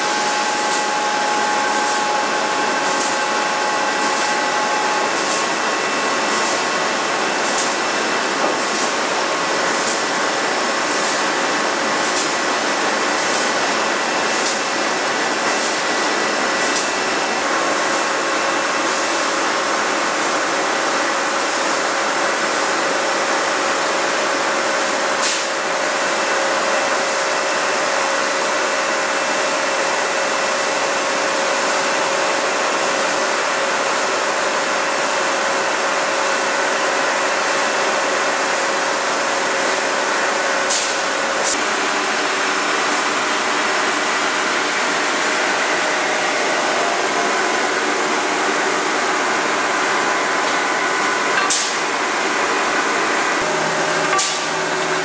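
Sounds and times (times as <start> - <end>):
rolling mill machinery noise: 0.0 - 55.0.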